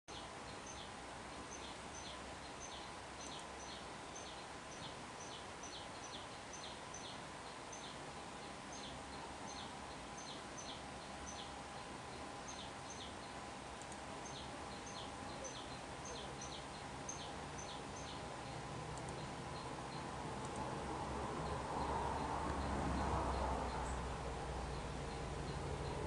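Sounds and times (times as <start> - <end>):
background hiss and hum: 0.1 - 26.0
small bird chirping: 0.1 - 26.0.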